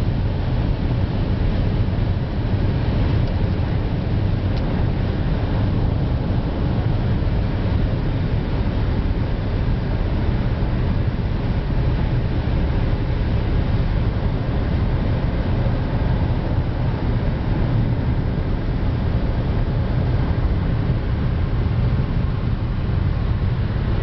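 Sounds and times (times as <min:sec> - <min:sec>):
road and engine drone inside vehicle: 0:00.0 - 0:24.0.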